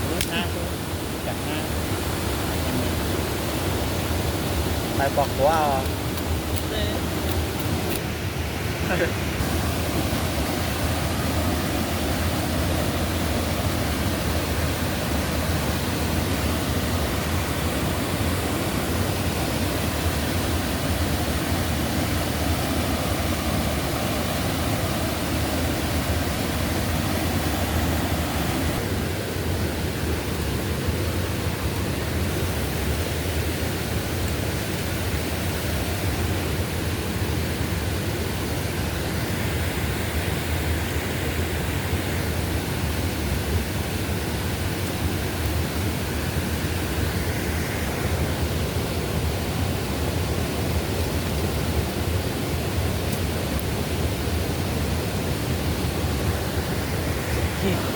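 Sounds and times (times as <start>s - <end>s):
forest stream rushing water: 0.0s - 57.9s.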